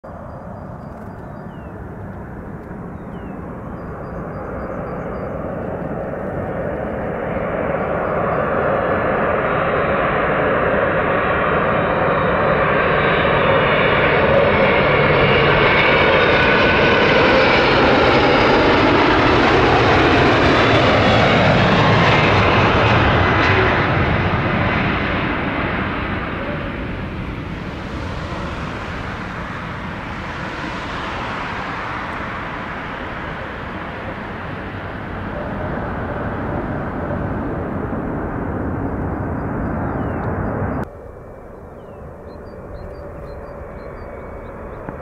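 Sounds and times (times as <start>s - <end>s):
jet airliner engines passing: 0.1s - 45.0s.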